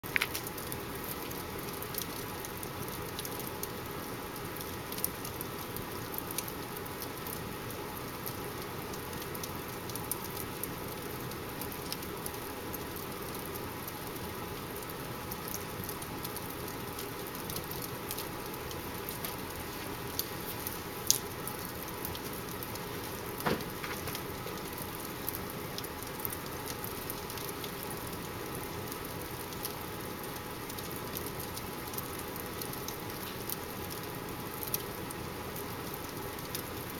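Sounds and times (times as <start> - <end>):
fireplace fire hissing: 0.0 - 36.9
wood fire snaps and pops: 0.0 - 36.9.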